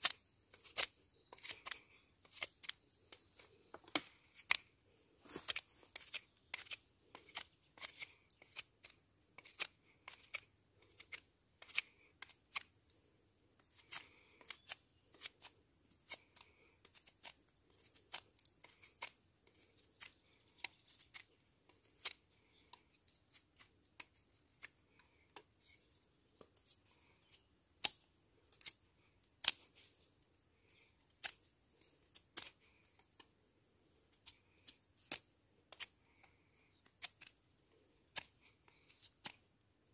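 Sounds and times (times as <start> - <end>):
knife carving wood: 0.0 - 39.9.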